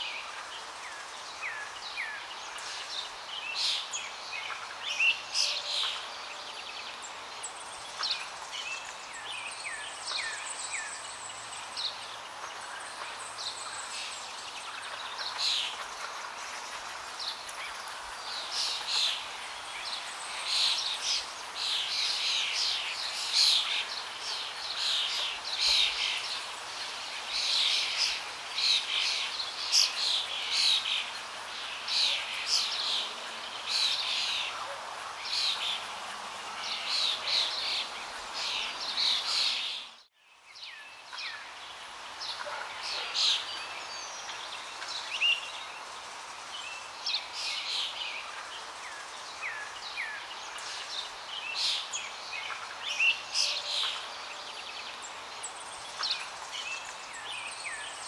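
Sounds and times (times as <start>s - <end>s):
background hiss: 0.0s - 58.0s
small birds chirping: 0.0s - 58.0s.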